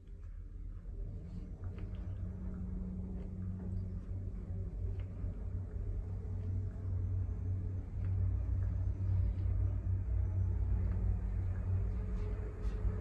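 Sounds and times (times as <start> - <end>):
elevator rumble and hum: 0.0 - 13.0.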